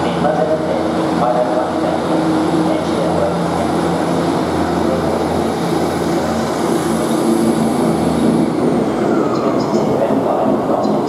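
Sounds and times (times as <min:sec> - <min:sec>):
diesel train engines droning: 0:00.0 - 0:11.0.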